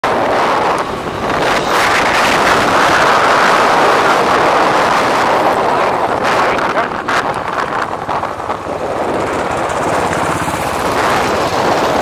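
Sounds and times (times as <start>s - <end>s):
wind rushing on microphone: 0.0s - 12.0s
motorcycle engine running: 0.1s - 12.0s.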